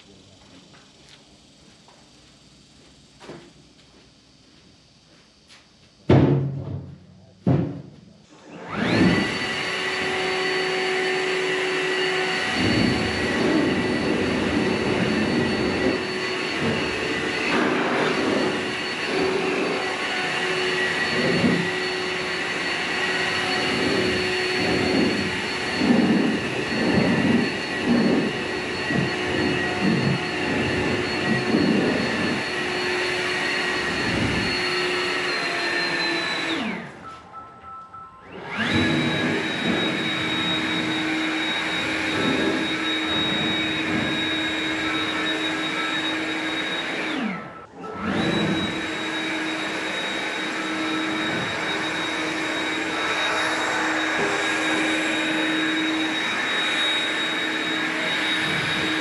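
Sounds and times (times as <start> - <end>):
blower whining: 7.2 - 37.4, 38.2 - 59.0.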